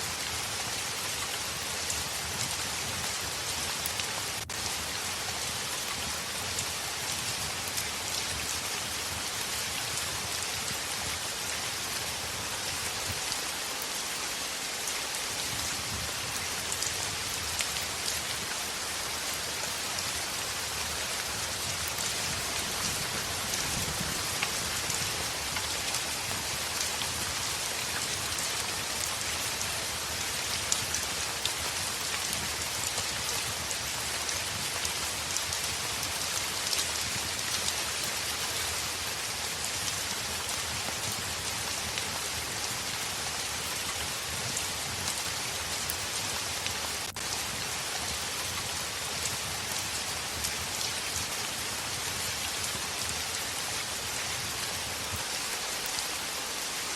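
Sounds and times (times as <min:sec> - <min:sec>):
heavy rain on window: 0:00.1 - 0:56.9.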